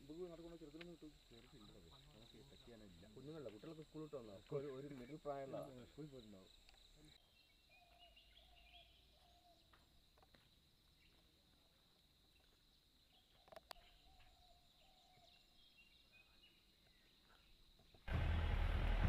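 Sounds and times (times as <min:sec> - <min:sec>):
high insect hum: 0:00.0 - 0:18.0.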